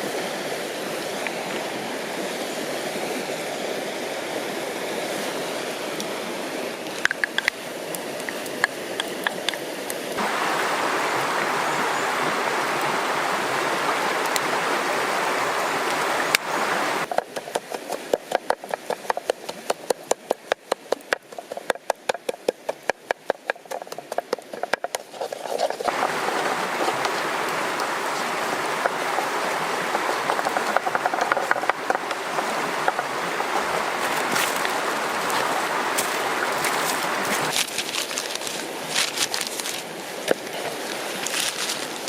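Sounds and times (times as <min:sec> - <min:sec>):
river stream rushing: 0:00.0 - 0:17.2, 0:25.2 - 0:42.0.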